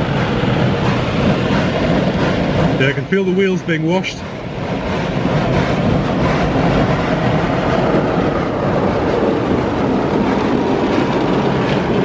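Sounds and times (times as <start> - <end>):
car wash water spray and machinery: 0.0 - 12.0.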